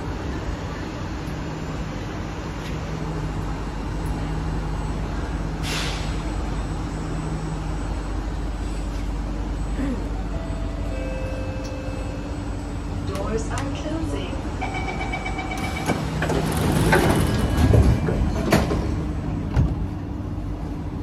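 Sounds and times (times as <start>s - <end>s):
train running rumble and hum: 0.0s - 21.0s.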